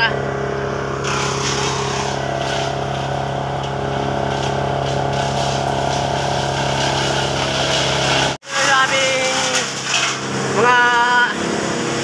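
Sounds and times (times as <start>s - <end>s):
wood chipper engine droning: 0.0s - 12.0s.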